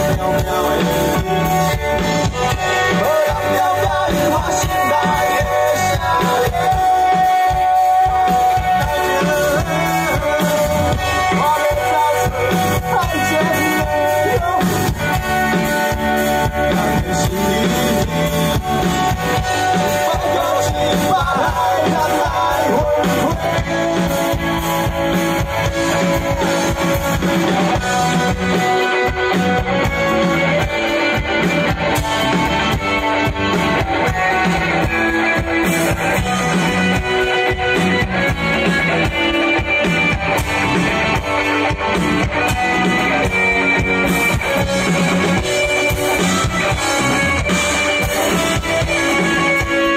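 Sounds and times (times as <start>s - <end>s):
bass guitar: 0.0s - 49.9s
drum kit: 0.0s - 49.9s
electric guitars: 0.0s - 49.9s.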